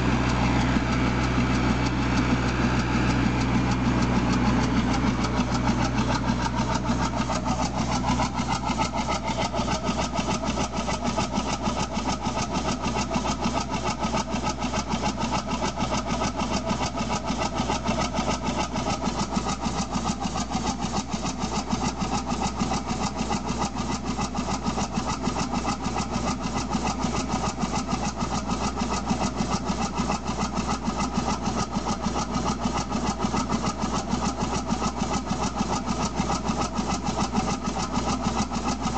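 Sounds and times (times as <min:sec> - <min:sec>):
steam engine exhaust beating: 0:00.0 - 0:38.9.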